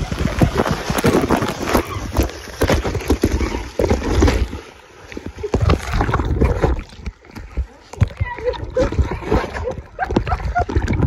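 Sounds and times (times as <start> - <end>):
muffled underwater knocks and thuds: 0.0 - 11.0
water splashing and sloshing: 0.0 - 11.0.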